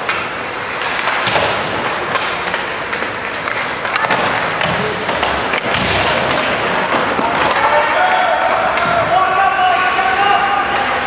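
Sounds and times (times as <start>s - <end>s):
hockey sticks and puck clacking: 0.0s - 11.0s
skates on ice: 0.0s - 11.0s.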